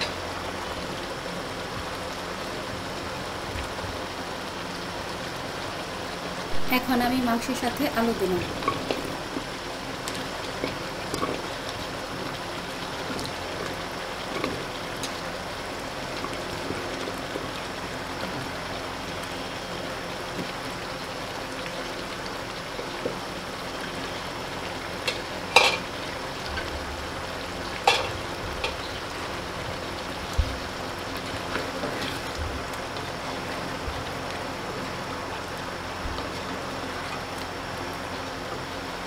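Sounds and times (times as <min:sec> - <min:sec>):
curry sizzling in a pot: 0:00.0 - 0:39.0.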